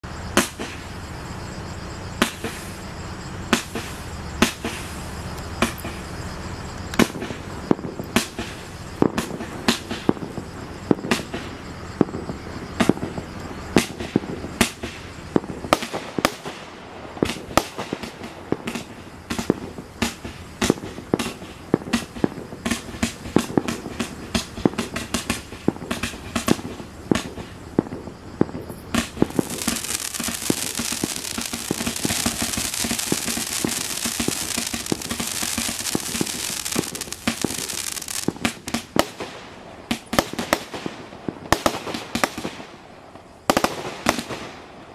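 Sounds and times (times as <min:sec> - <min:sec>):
loud steady hiss: 0:00.0 - 0:44.9
firework sharp bangs: 0:00.1 - 0:01.0, 0:02.1 - 0:06.2, 0:06.9 - 0:44.9.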